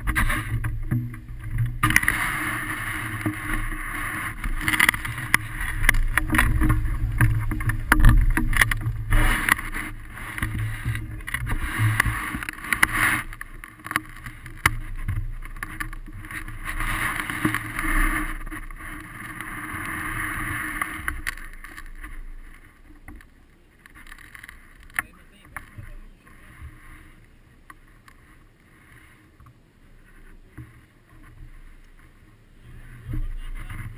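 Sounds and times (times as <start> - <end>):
airflow buffeting microphone: 0.0 - 33.9.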